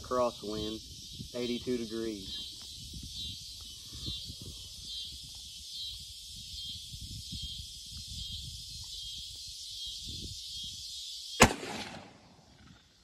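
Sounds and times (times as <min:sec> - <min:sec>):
wind rumble on microphone: 0:00.0 - 0:10.9
insects chorus: 0:00.0 - 0:13.0.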